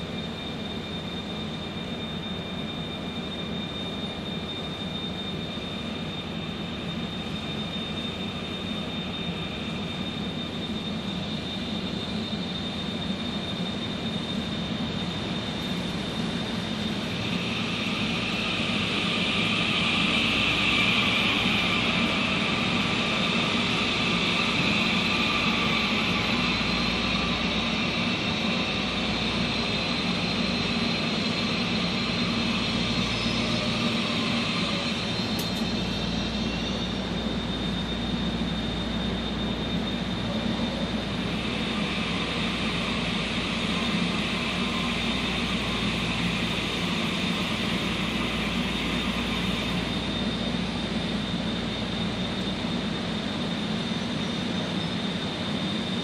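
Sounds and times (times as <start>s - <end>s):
electric train whine: 0.0s - 56.0s.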